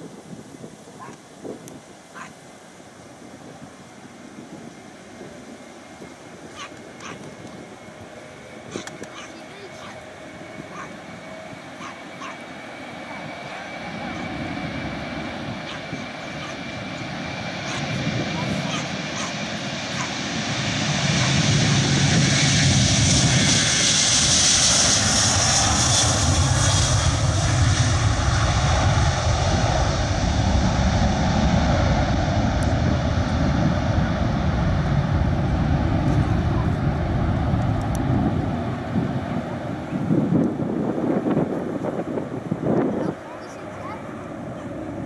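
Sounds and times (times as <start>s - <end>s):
jet engines at takeoff: 0.0s - 45.0s.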